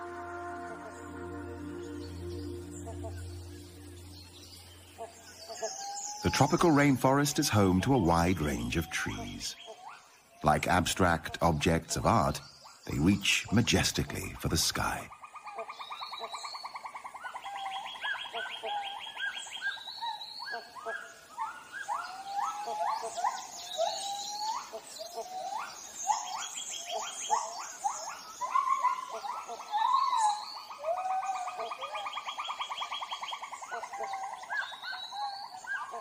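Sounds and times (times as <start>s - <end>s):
animal calls: 0.0s - 36.0s.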